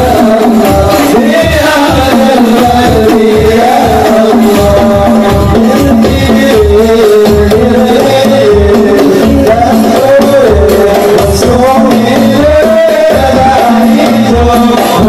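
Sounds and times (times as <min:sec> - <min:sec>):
frame drums beating: 0:00.0 - 0:15.0
men singing: 0:00.0 - 0:15.0.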